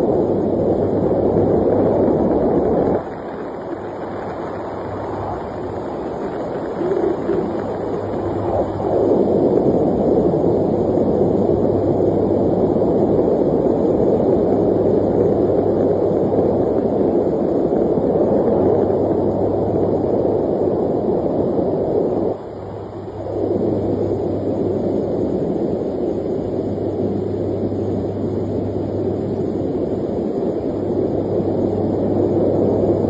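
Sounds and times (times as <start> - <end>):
constant low hum: 0.0 - 33.0.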